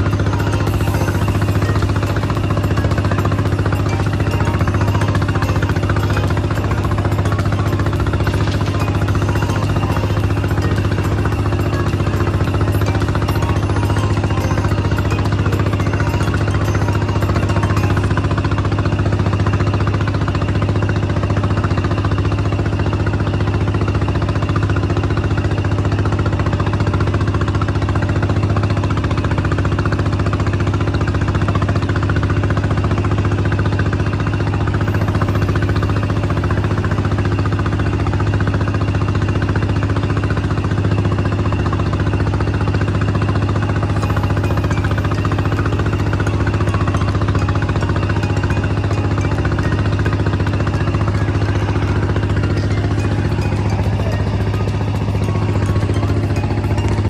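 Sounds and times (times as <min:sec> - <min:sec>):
boat engine humming: 0:00.0 - 0:57.0
wind: 0:00.0 - 0:57.0.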